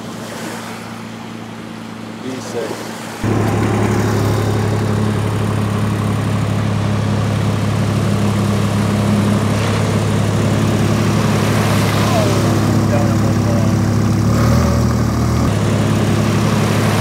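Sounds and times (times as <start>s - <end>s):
engine humming steadily: 0.0s - 17.0s.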